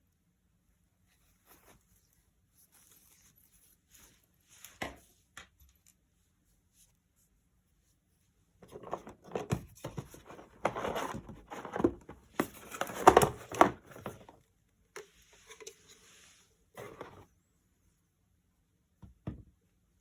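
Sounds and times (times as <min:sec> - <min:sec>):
rustling and crinkling handling: 0:01.0 - 0:17.4.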